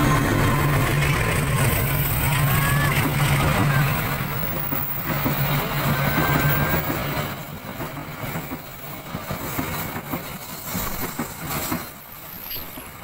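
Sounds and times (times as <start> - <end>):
train wheels rumbling on rails: 0.0 - 13.0
wheels clacking on rails: 0.0 - 13.0.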